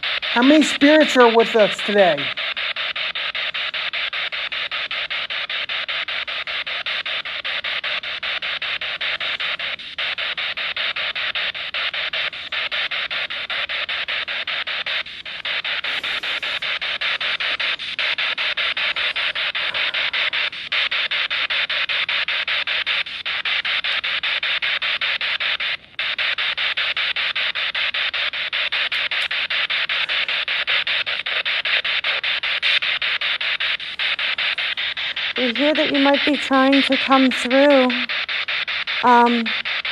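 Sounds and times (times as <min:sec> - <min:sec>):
static hiss with crackle: 0:00.0 - 0:39.9.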